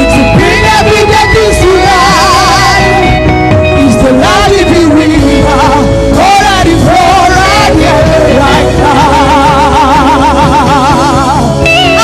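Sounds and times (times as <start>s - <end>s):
deep bass: 0.0s - 12.0s
person singing with vibrato: 0.0s - 12.0s
sustained keyboard chords: 0.0s - 12.0s.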